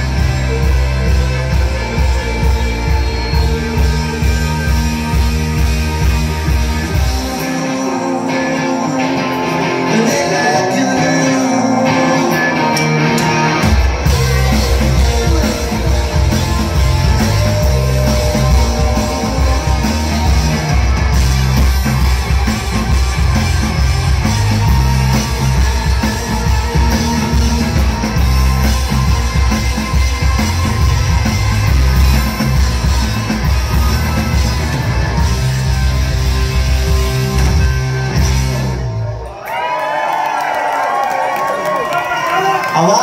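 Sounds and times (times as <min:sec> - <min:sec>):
drum kit: 0:00.0 - 0:39.4
bass guitar: 0:00.0 - 0:39.5
electric guitar: 0:00.0 - 0:40.8.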